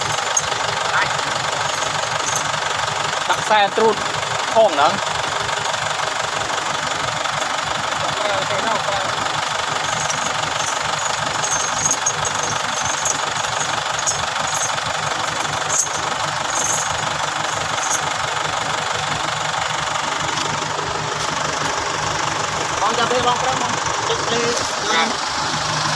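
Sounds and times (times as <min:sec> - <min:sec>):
diesel engine knocking clatter: 0:00.0 - 0:25.9.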